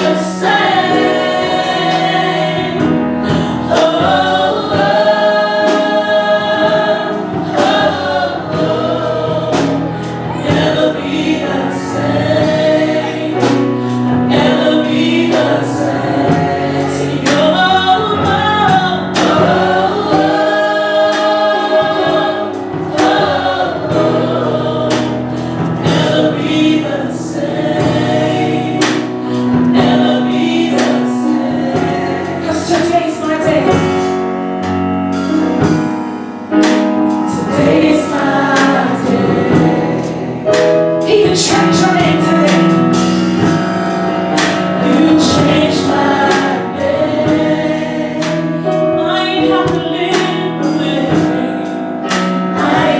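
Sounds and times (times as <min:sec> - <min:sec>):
choir singing over a beat: 0:00.0 - 0:52.9.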